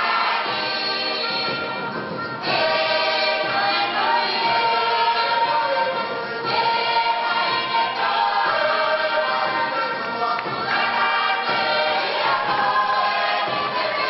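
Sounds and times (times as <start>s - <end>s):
group singing in harmony: 0.0s - 14.0s.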